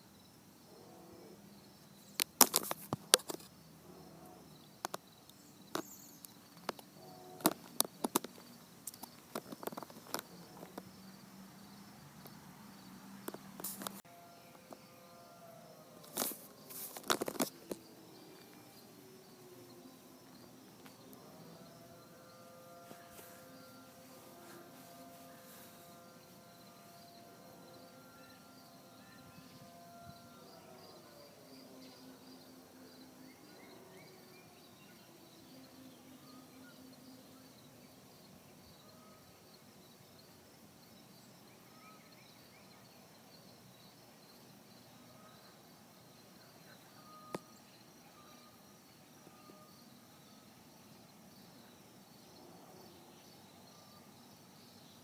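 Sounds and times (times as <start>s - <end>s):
faint insects chirping: 0.0s - 55.0s.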